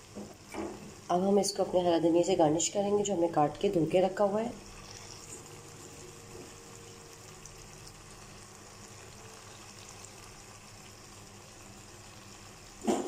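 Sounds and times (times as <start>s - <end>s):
curry simmering in a wok: 0.0s - 13.0s.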